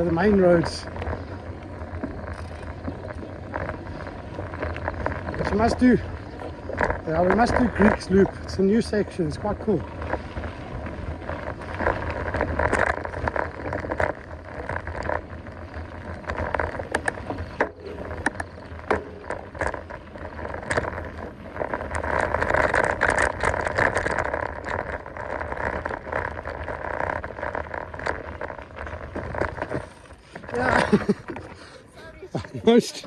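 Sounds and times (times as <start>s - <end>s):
bike clicks and rattles: 0.0s - 33.0s
bike tyres on dirt: 0.0s - 33.0s.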